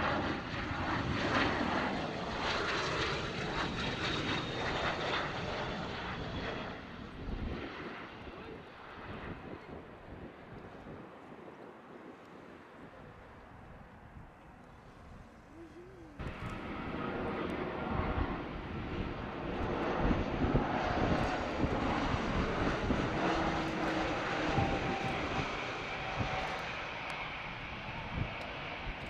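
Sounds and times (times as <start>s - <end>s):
jet engines running loud: 0.0s - 14.1s, 16.2s - 29.0s
faint wind: 0.0s - 29.0s.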